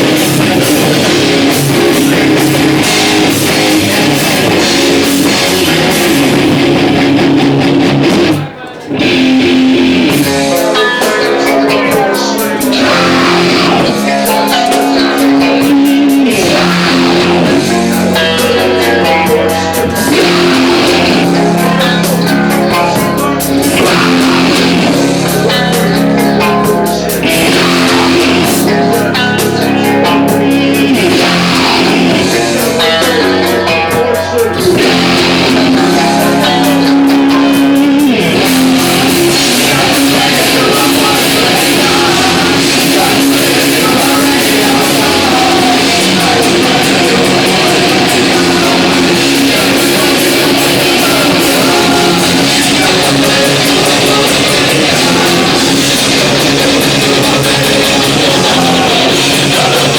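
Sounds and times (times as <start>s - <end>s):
bass and drums: 0.0s - 59.9s
distorted electric guitar: 0.0s - 59.9s.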